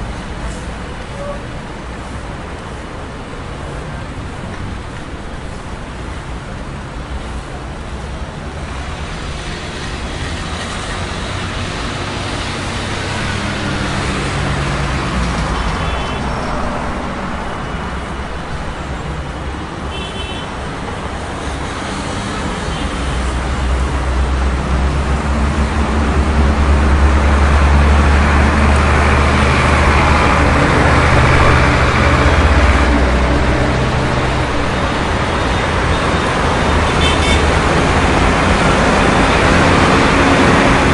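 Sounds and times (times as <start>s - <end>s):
heavy vehicle rumble: 0.0s - 40.9s
passing cars: 0.0s - 40.9s.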